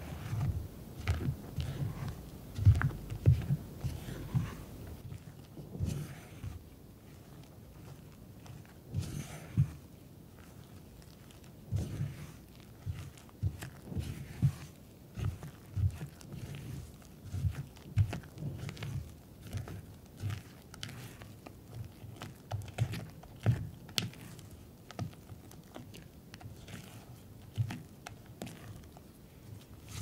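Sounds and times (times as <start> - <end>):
batter thudding and squishing: 0.0 - 30.0.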